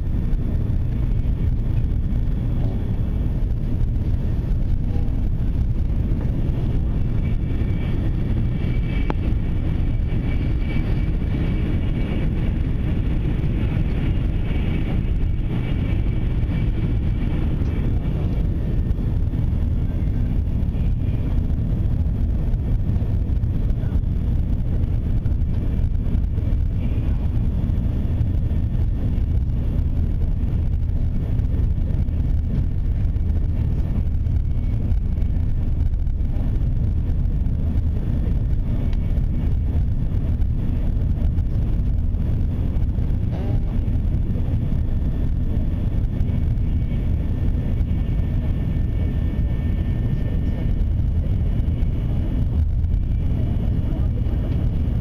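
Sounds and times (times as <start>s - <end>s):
train rumbling at speed: 0.0s - 55.0s.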